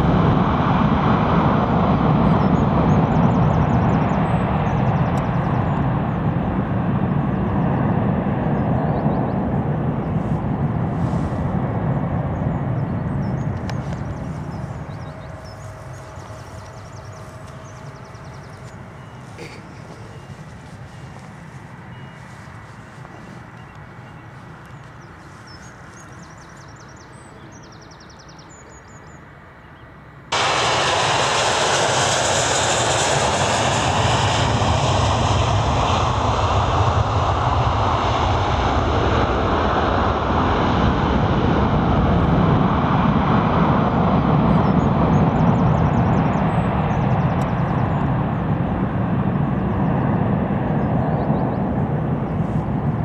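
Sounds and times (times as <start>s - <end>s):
distant rumble: 0.0s - 28.0s, 30.3s - 53.0s
jet engines roaring: 0.0s - 29.4s, 30.0s - 53.0s.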